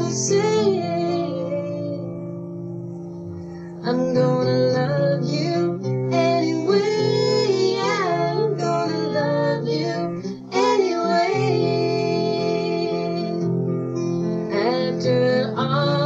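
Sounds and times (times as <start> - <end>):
woman singing love song: 0.0 - 2.4, 3.8 - 13.6, 14.5 - 16.0
acoustic guitar: 0.0 - 16.0.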